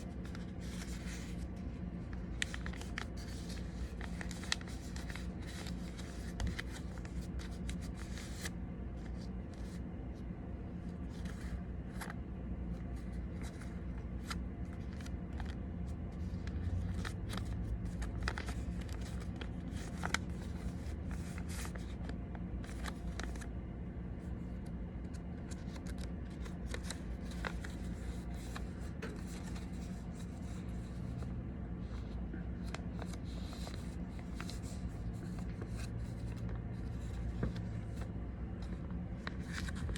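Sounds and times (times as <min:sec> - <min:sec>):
paper folding and rustling: 0:00.0 - 0:23.5, 0:24.2 - 0:39.9
steady low hum: 0:00.0 - 0:39.9.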